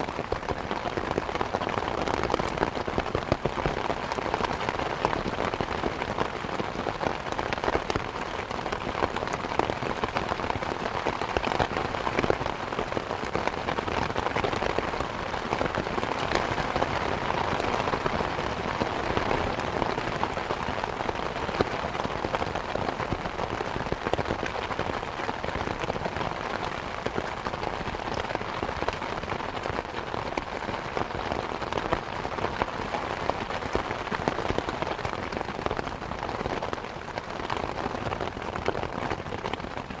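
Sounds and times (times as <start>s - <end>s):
dense rain pattering: 0.0s - 40.0s.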